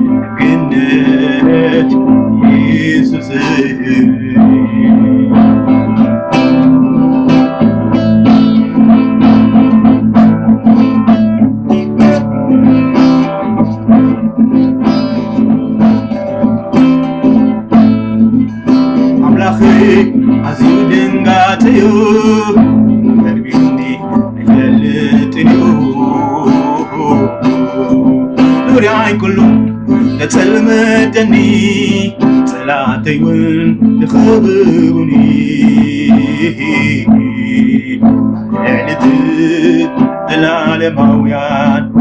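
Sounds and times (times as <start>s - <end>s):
man singing: 0.0s - 11.1s, 11.7s - 14.3s, 14.9s - 42.0s
acoustic guitar strummed: 0.0s - 42.0s.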